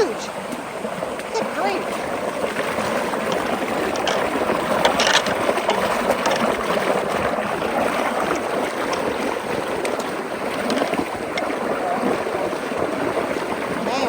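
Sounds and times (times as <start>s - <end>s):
water rushing through a culvert: 0.0s - 14.0s
water splash: 0.0s - 14.0s.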